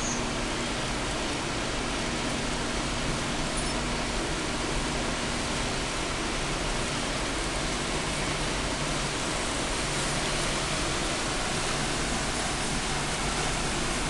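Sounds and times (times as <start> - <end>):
sea: 0.0 - 14.0
wind: 0.0 - 14.0.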